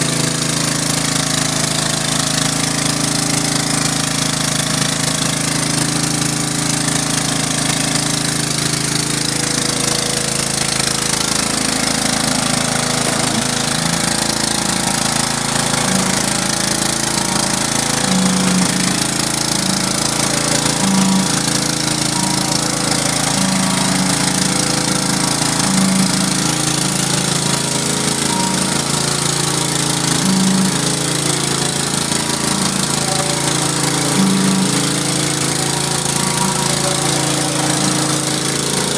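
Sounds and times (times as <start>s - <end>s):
pressure washer spraying concrete: 0.0s - 38.9s.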